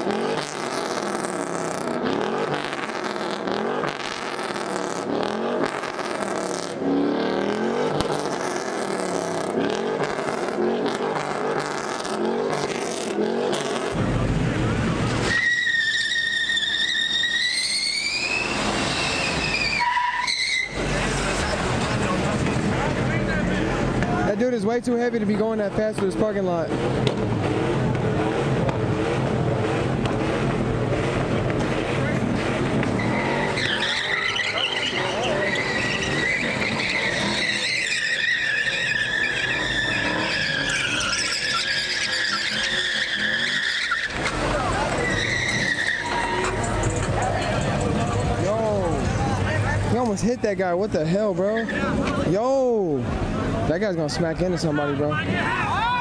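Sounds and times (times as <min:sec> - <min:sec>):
car tyres squealing: 0:00.0 - 0:56.0.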